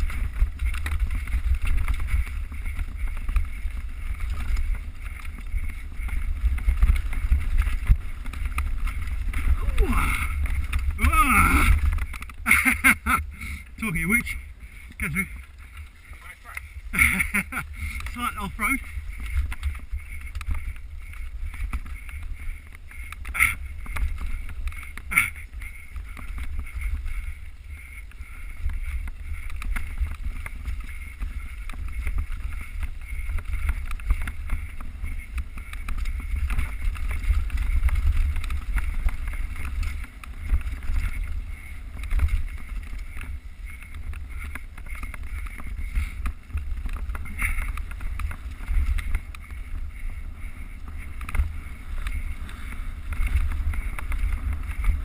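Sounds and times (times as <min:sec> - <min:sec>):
wind and tyre rumble: 0:00.0 - 0:55.0.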